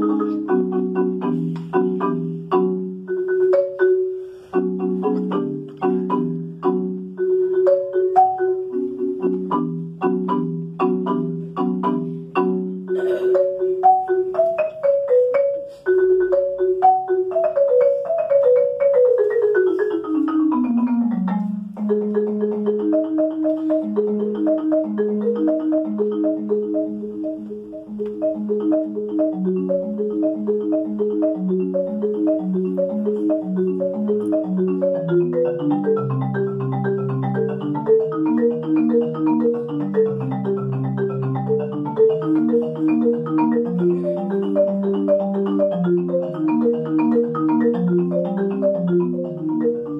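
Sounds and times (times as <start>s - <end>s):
marimba playing: 0.0s - 49.9s.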